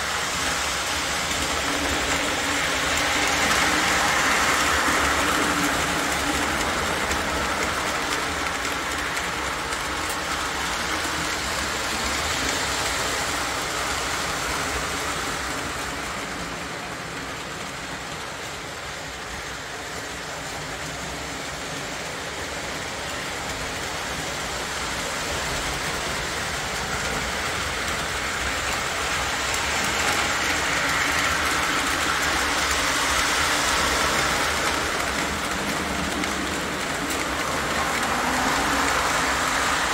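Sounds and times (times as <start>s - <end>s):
model train rumbling clatter: 0.0s - 39.9s.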